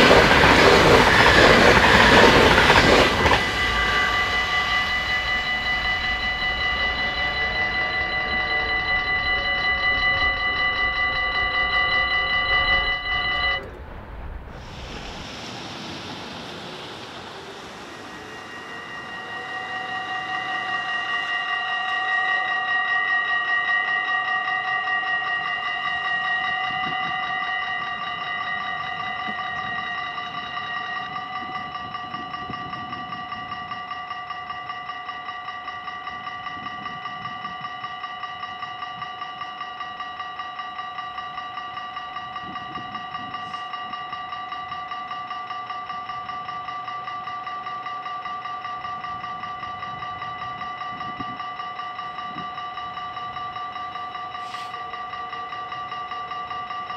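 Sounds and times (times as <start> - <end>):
level crossing bells ringing: 0.0 - 13.8, 17.4 - 56.9.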